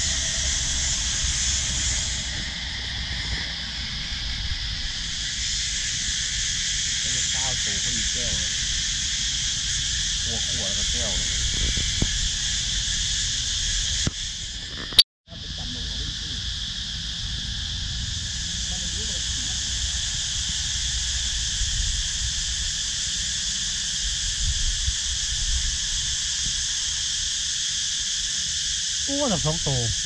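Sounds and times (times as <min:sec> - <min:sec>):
cicadas singing: 0:00.0 - 0:30.0.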